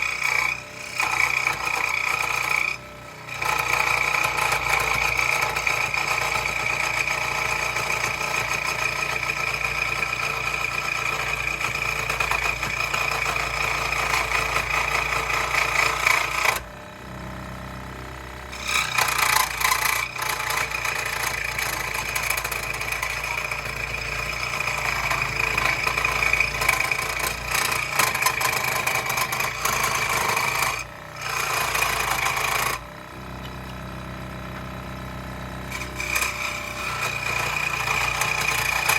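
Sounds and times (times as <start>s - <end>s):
power saw cutting wood: 0.0s - 38.9s.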